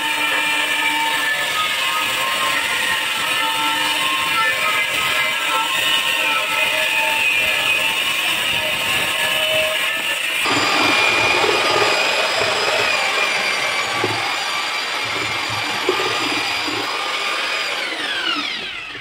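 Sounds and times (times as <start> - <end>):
electric drill mixer whining: 0.0 - 19.0.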